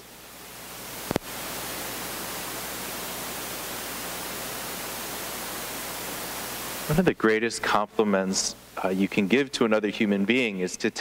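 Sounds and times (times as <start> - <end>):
faint low hum: 0.0 - 11.0
steady hiss: 0.0 - 11.0.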